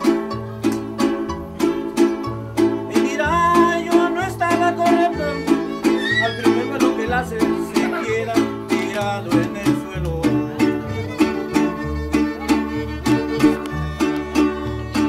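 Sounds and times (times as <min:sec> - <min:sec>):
violin melody: 0:00.0 - 0:08.6, 0:10.4 - 0:15.0
bass line: 0:00.0 - 0:15.0
strummed strings: 0:00.0 - 0:15.0.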